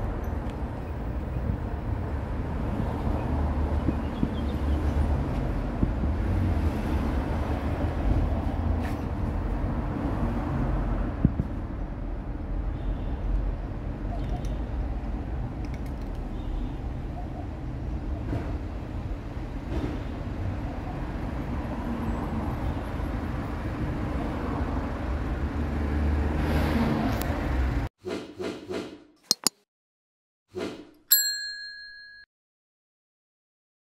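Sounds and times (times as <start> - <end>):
low traffic rumble: 0.0 - 27.9.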